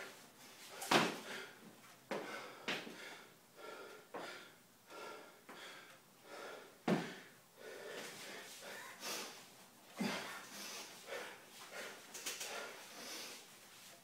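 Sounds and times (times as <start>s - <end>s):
man breathing hard: 0.1s - 13.7s.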